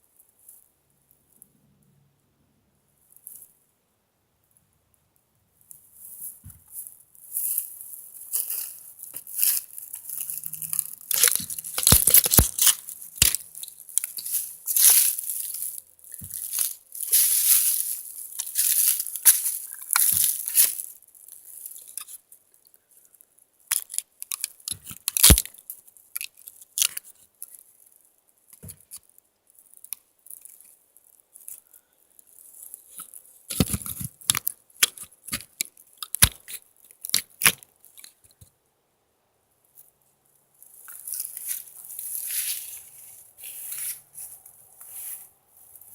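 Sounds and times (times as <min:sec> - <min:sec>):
rustling and crunching: 0:05.6 - 0:38.5, 0:39.7 - 0:45.9.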